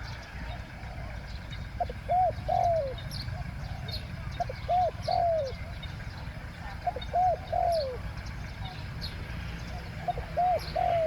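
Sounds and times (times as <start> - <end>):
dove cooing: 0.0 - 8.9, 9.6 - 11.0
small birds chirping: 0.0 - 11.0.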